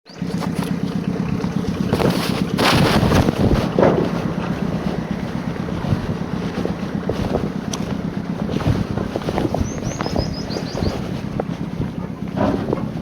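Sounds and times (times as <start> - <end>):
low mechanical rumble: 0.1 - 13.0
wind buffeting microphone: 0.2 - 13.0.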